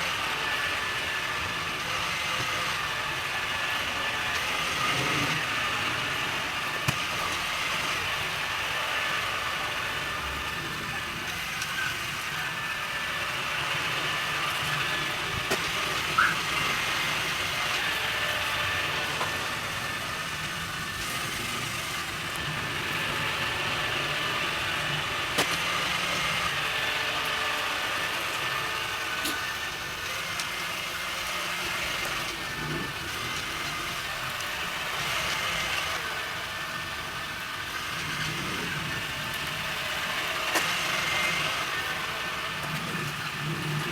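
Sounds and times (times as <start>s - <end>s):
robot vacuum whirring hum: 0.0s - 43.9s.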